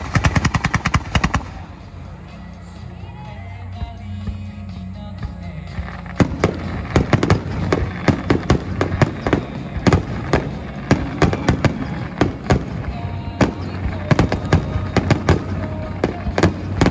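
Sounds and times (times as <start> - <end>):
background music: 0.0 - 16.9
fireworks bursting: 0.0 - 16.9.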